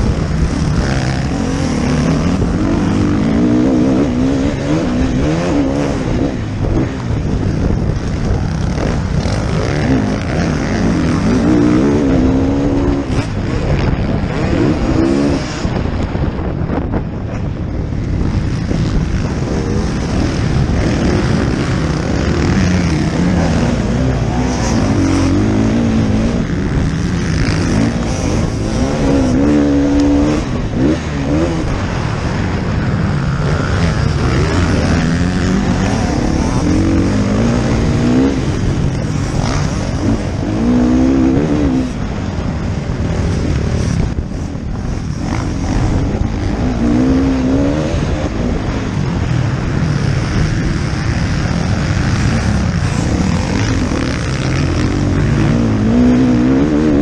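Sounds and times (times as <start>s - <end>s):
motocross engine revving: 0.0s - 15.9s, 18.0s - 57.0s.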